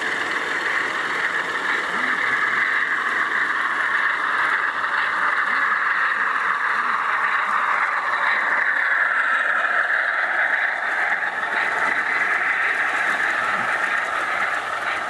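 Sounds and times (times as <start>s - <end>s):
model locomotive motor: 0.0s - 15.0s
model train wheels rolling on rail: 0.0s - 15.0s.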